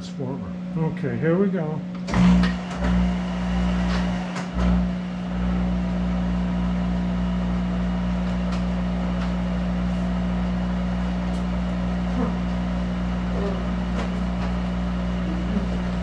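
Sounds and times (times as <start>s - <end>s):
electrical hum: 0.0s - 16.0s
lathe running: 0.0s - 16.0s.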